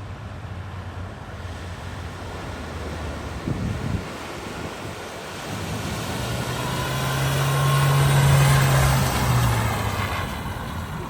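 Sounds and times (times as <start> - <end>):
rushing water: 0.0 - 11.0
vehicle engine drone: 0.0 - 11.0
wind on microphone: 1.6 - 11.0.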